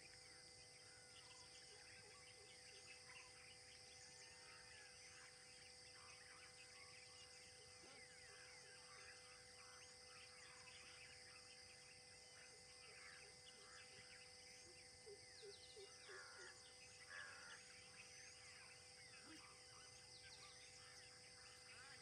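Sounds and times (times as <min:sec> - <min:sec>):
steady high insect drone: 0:00.0 - 0:22.0.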